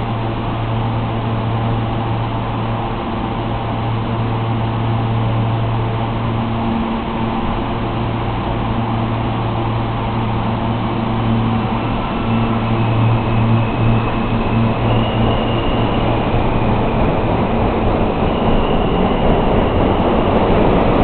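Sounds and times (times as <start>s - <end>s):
constant rushing noise: 0.0s - 21.0s
subway train equipment humming: 0.0s - 21.0s.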